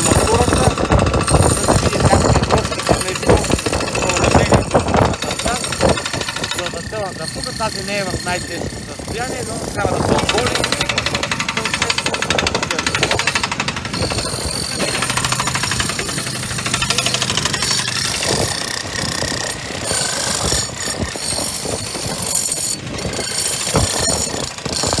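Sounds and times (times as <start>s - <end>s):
construction machinery engines: 0.0s - 25.0s
demolition hammers chipping concrete: 0.0s - 25.0s.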